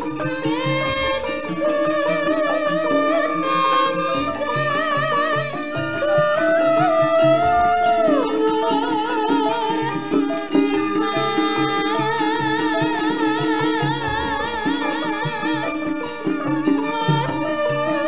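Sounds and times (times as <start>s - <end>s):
gamelan music: 0.0s - 18.0s
woman singing with vibrato: 0.0s - 18.0s.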